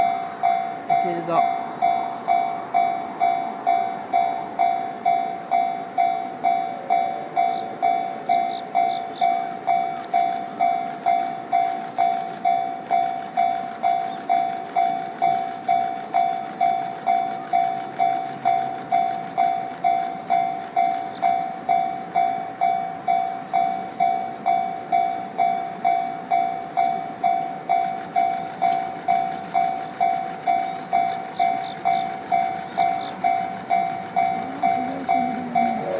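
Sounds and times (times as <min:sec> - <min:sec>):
level-crossing warning bell: 0:00.0 - 0:35.9
steam train passing: 0:00.0 - 0:35.9.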